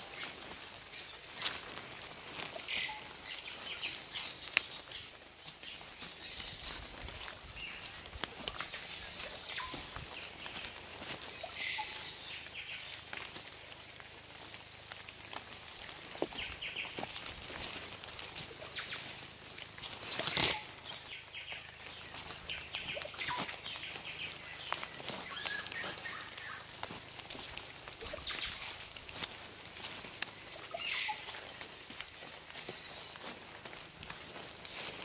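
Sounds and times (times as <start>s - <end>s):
footsteps through undergrowth: 0.0s - 35.0s
leaf rustle: 0.0s - 35.0s.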